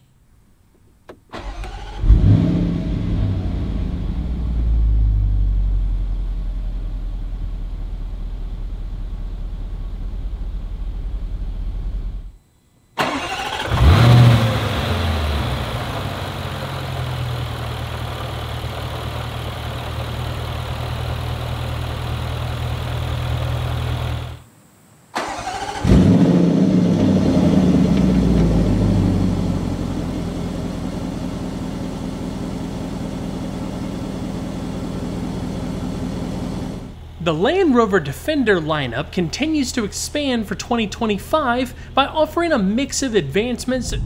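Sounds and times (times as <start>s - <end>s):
car engine starting and idling: 0.8s - 12.4s, 13.0s - 24.4s, 25.1s - 44.0s.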